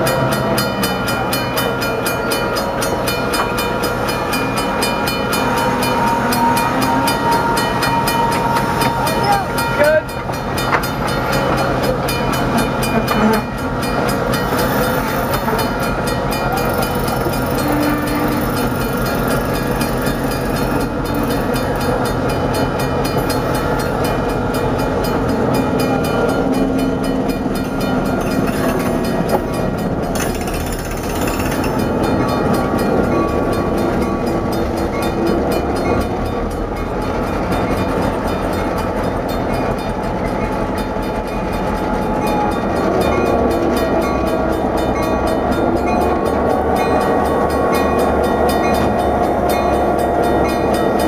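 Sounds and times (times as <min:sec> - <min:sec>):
diesel locomotive engine: 0:00.0 - 0:51.0
train wheel and rail noise: 0:00.0 - 0:51.0.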